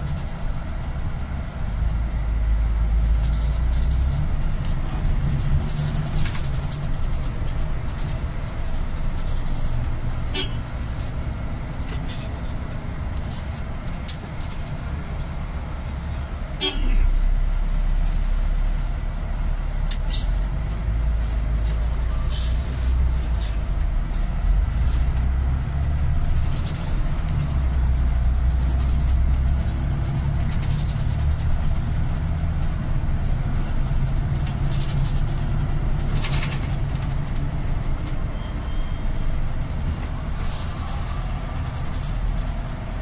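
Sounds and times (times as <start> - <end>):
road and engine rumble: 0.0 - 43.0.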